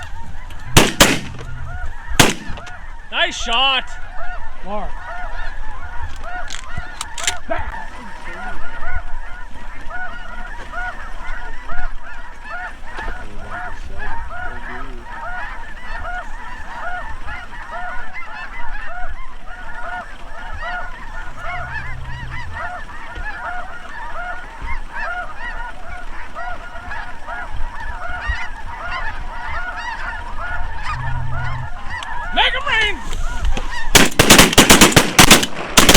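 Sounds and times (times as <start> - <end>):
geese honking: 0.0 - 35.9.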